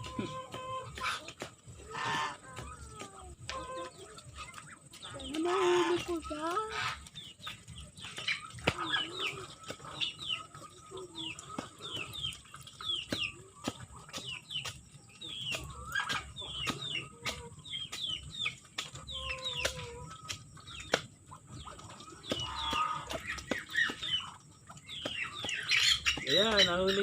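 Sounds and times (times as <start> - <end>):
chick peeping: 0.0 - 27.0.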